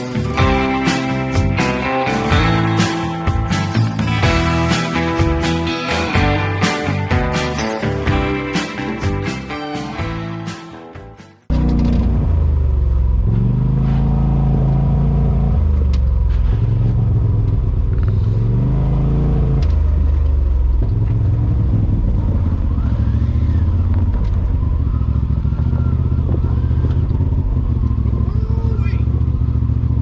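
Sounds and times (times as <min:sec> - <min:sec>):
off-road vehicle engine revving: 0:00.0 - 0:10.6, 0:11.5 - 0:30.0.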